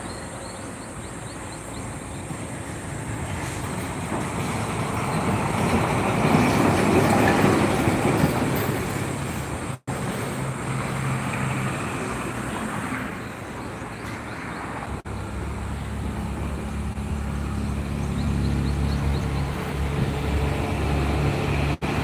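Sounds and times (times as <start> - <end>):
heavy vehicle engine hum: 0.0 - 6.6, 7.4 - 22.0
road traffic noise: 0.0 - 22.0.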